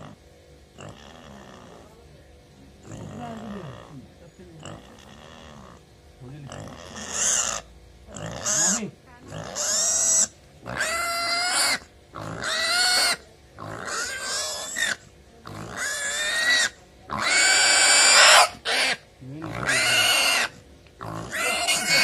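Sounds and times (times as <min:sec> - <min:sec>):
pig squealing: 0:00.8 - 0:01.8, 0:02.8 - 0:04.0, 0:04.6 - 0:05.8, 0:06.5 - 0:22.0.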